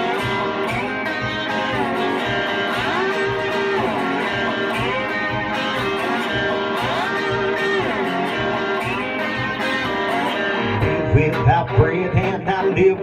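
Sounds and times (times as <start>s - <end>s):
lead guitar bending notes: 0.0s - 13.0s
steady beat: 0.0s - 13.0s
strummed guitar: 0.0s - 13.0s.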